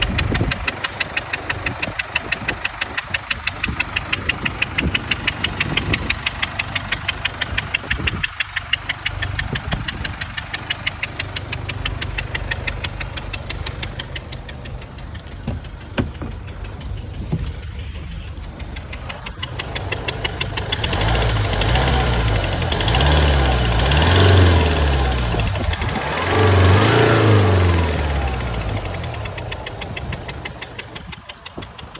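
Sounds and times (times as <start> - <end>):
diesel engine idling with knock: 0.0 - 31.9
engine revving: 0.0 - 31.9.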